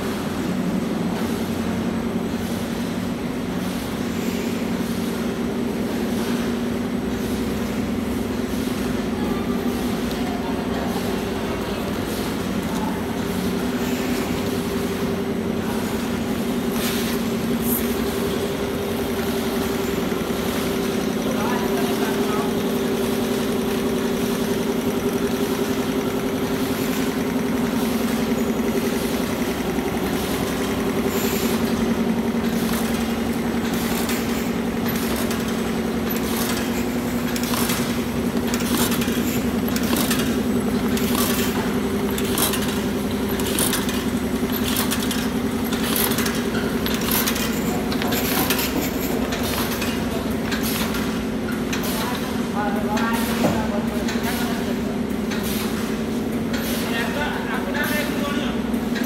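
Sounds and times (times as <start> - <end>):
machinery motors and rollers humming: 0.0 - 59.0
regular mechanical clicking: 11.0 - 59.0.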